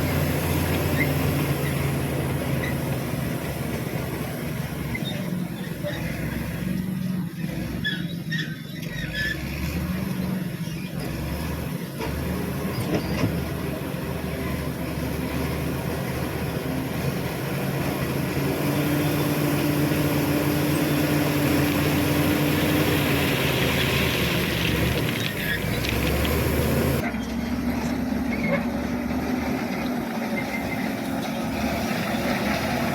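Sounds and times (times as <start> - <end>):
bulldozer diesel engine under load: 0.0 - 32.9.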